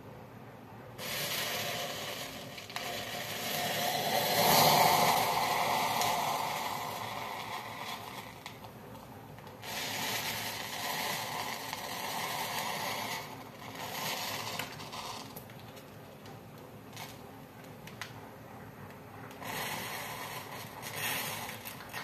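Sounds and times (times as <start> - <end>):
matchsticks burning with crackling hiss: 1.0 - 18.2, 19.3 - 22.0.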